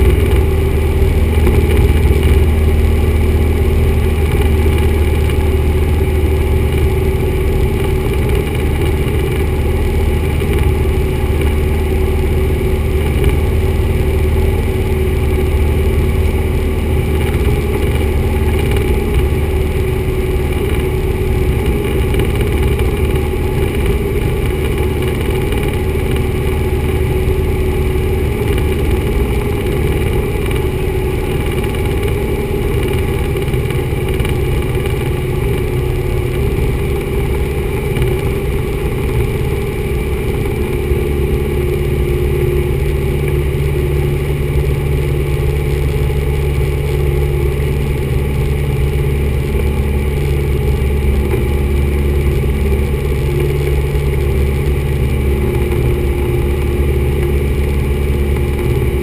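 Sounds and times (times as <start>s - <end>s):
airplane engine droning in cabin: 0.0s - 59.0s.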